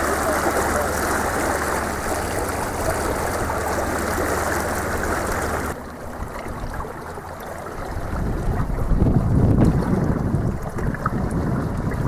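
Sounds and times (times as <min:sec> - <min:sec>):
water rushing past hull: 0:00.0 - 0:12.0.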